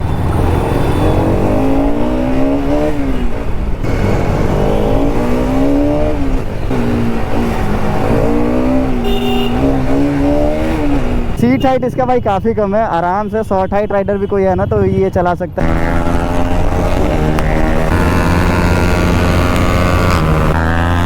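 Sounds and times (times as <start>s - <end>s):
motorcycle engine accelerating: 0.0s - 11.4s, 14.8s - 21.0s.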